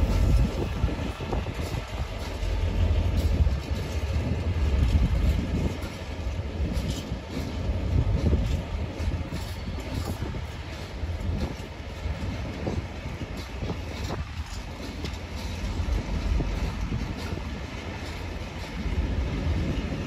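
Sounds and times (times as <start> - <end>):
freight train rumbling on rails: 0.0 - 20.0
train wheel clacks and knocks: 0.0 - 20.0.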